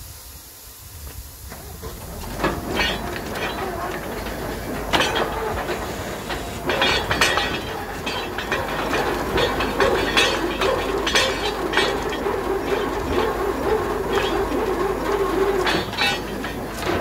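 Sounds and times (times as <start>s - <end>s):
drilling rig mechanical din: 1.5s - 17.0s
sharp metallic clanks: 2.3s - 17.0s.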